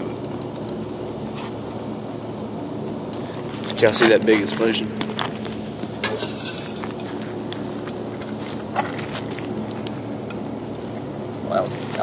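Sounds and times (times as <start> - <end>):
flame rushing: 0.3 - 12.0.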